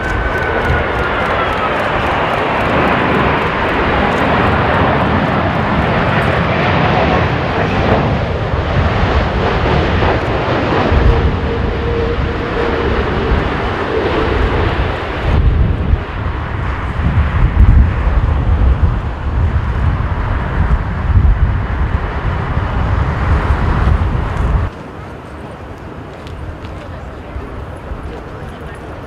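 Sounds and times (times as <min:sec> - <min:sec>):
jet airliner passing low: 0:00.0 - 0:29.0
wind rumbling on microphone: 0:00.0 - 0:29.0.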